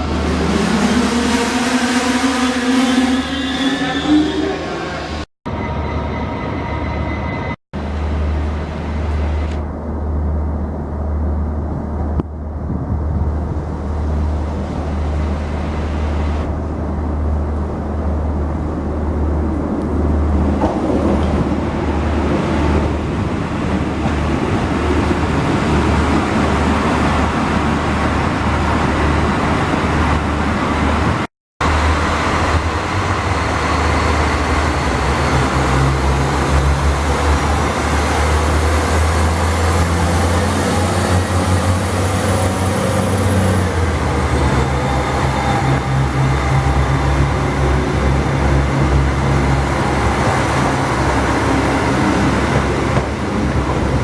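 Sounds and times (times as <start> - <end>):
diesel train engine running: 7.8 - 54.0.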